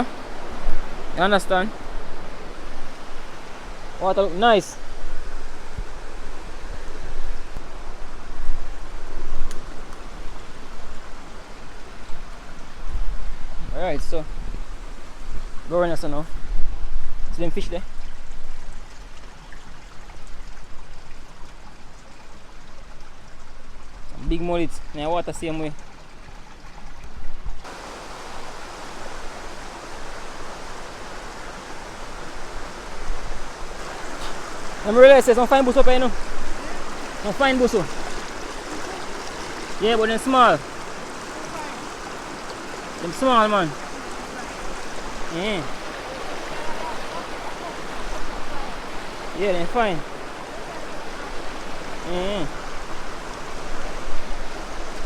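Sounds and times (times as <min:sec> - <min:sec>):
river water rushing: 0:00.0 - 0:24.1, 0:25.2 - 0:55.0.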